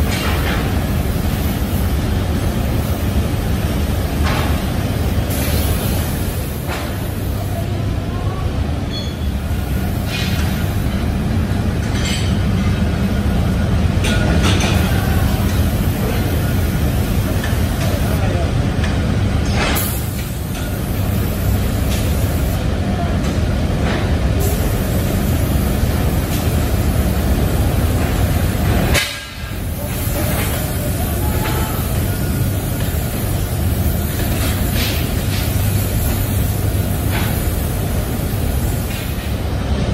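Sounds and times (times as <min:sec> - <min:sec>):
factory machinery rumble: 0:00.0 - 0:39.9.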